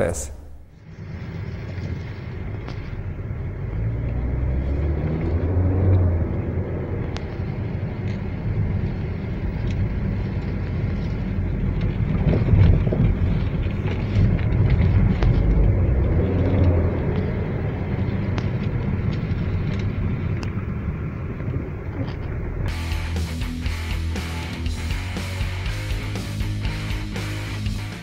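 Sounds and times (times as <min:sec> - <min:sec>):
road and drivetrain rumble: 0:00.8 - 0:28.0.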